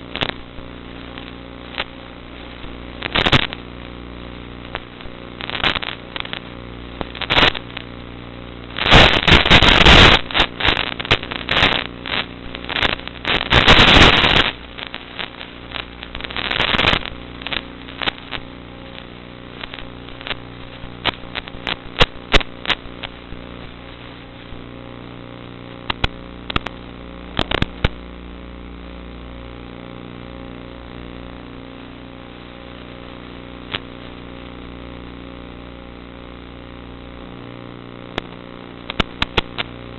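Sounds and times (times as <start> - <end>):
sharp crackles: 0.0 - 39.9.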